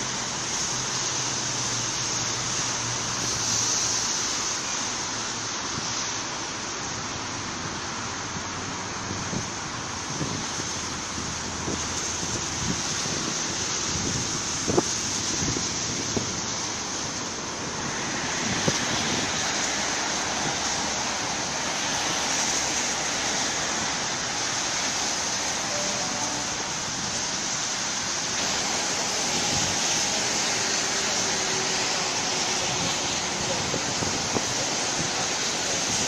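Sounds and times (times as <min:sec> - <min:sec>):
rain and wind rushing: 0:00.0 - 0:36.0.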